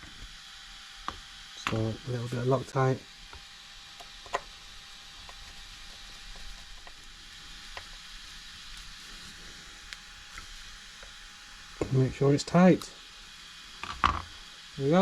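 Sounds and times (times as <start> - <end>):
steady low hiss: 1.6 - 14.0.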